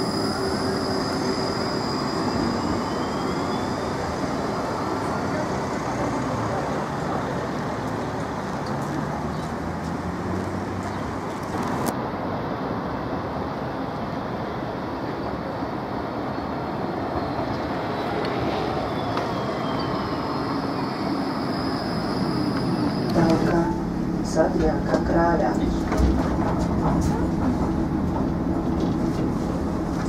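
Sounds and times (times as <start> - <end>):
road traffic: 0.0 - 30.0
trams rumbling and hissing: 0.0 - 30.0.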